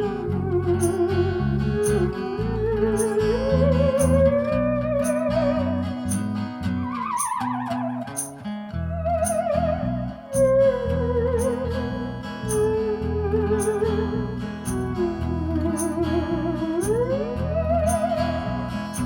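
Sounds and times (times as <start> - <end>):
bass line: 0.0 - 19.0
lead instrument solo with vibrato: 0.0 - 19.0.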